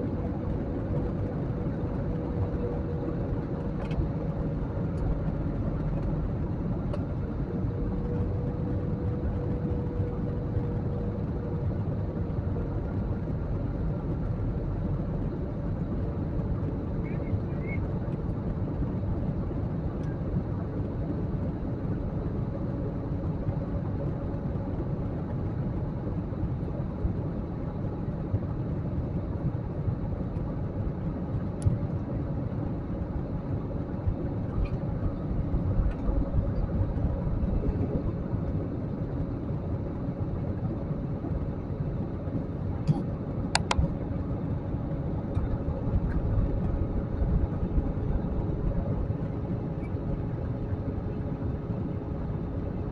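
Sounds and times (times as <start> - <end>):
airliner cabin drone: 0.0 - 52.9
faint hum: 0.0 - 52.9.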